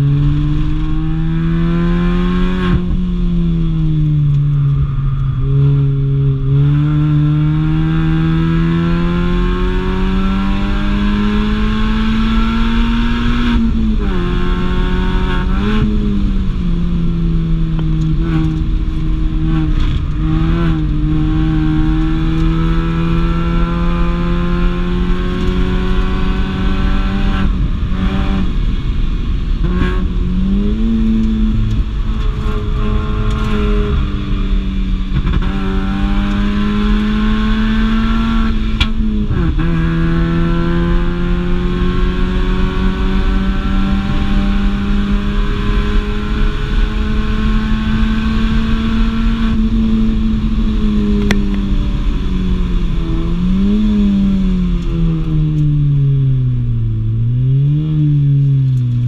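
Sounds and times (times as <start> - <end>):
car engine revving hard: 0.0 - 3.0, 5.5 - 16.5, 18.1 - 56.1.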